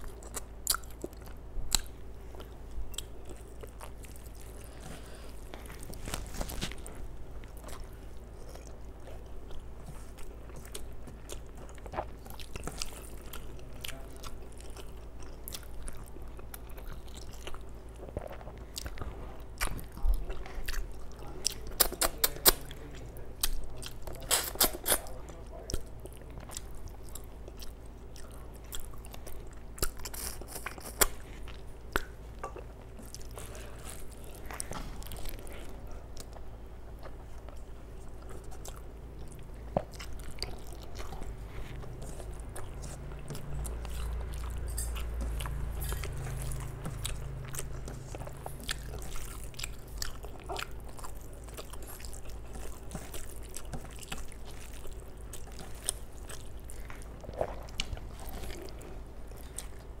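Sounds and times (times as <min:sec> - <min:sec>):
chewing and wet mouth smacks: 0:07.5 - 0:22.8, 0:23.4 - 1:00.0.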